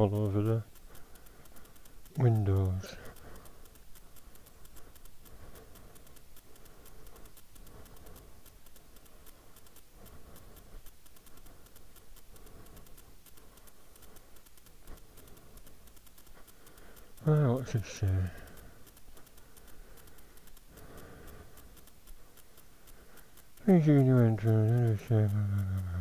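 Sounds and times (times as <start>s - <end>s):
light rain pattering: 0.0s - 26.0s.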